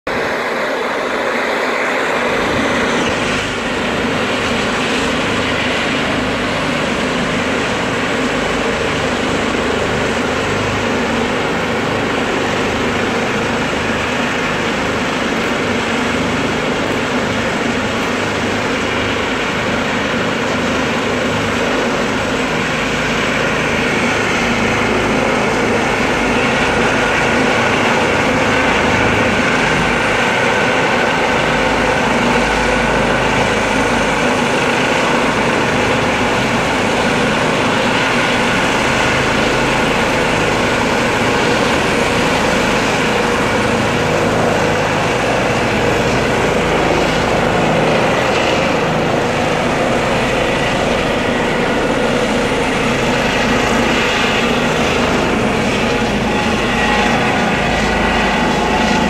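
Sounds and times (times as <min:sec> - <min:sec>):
helicopter rotor and engine noise: 0:00.0 - 0:59.0
helicopter turbine whine: 0:00.1 - 0:59.0.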